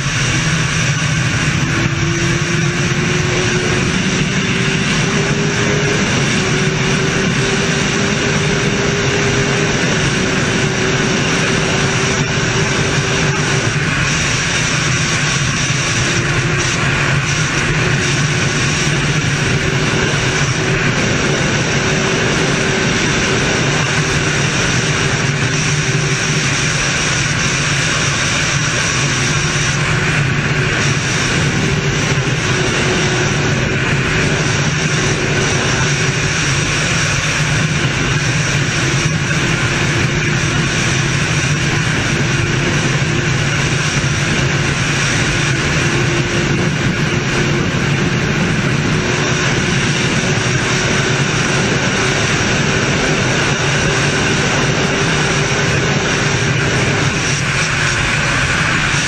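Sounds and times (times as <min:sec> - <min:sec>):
motorcycle engine at high revs: 0:00.0 - 0:59.0
wind rushing over camera: 0:00.0 - 0:59.0.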